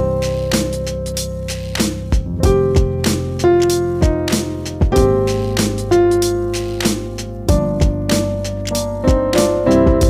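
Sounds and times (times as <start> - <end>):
instrumental ringtone music: 0.0 - 10.0.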